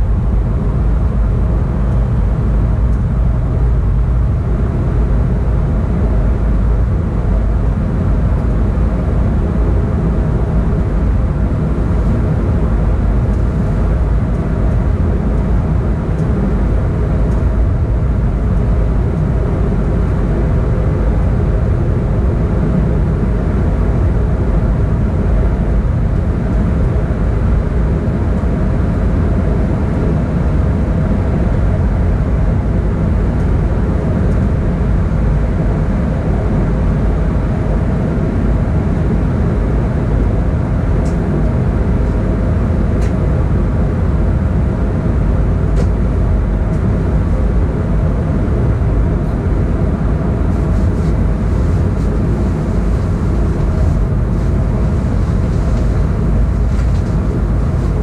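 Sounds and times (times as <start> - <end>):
steady hum: 0.0 - 58.0
train running at speed: 0.0 - 58.0.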